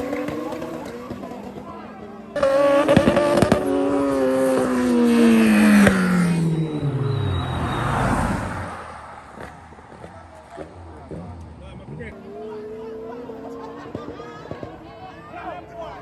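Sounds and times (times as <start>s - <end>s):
race car engine passing by: 0.0s - 16.0s.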